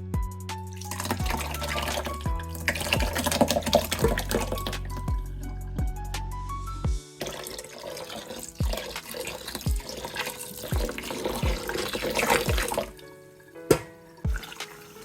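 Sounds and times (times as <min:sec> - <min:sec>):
background music with deep beat: 0:00.0 - 0:07.6, 0:08.4 - 0:13.0, 0:13.6 - 0:15.0
tap water running into sink: 0:00.8 - 0:05.0, 0:07.2 - 0:15.0.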